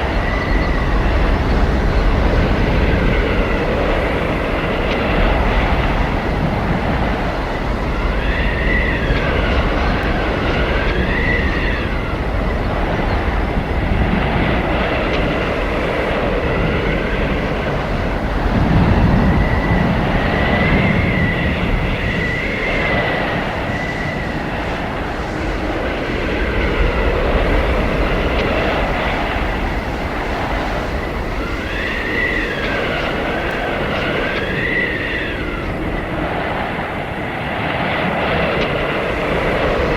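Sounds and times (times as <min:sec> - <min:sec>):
howling blizzard wind: 0:00.0 - 0:39.9.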